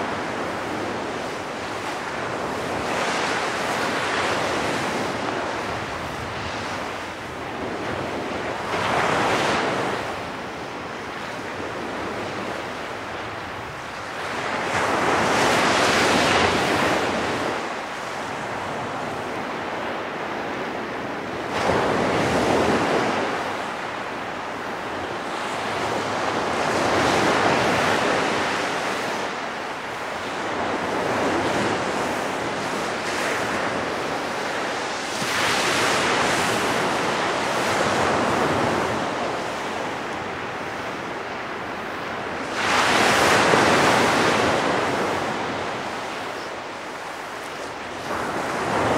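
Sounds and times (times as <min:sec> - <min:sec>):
surf washing onto beach: 0:00.0 - 0:48.9.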